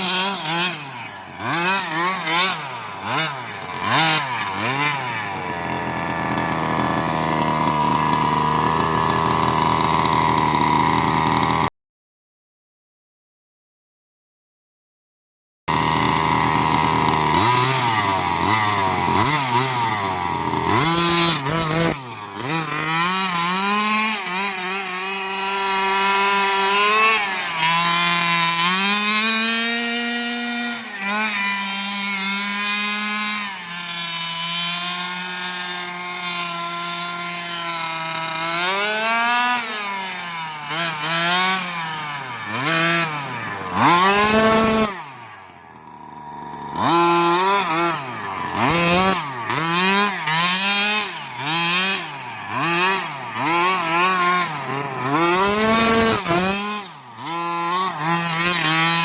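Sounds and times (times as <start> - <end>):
two-stroke engine revving: 0.0 - 11.7, 15.7 - 59.0.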